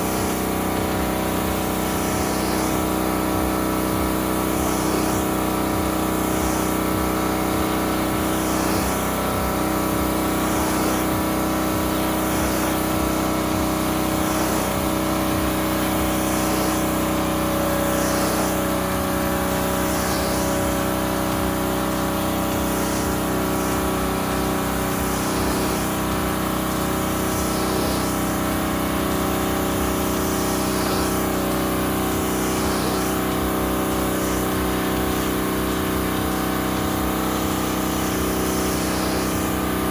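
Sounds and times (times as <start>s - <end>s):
pressure washer engine drone: 0.0s - 39.9s
water spray hiss: 0.0s - 39.9s.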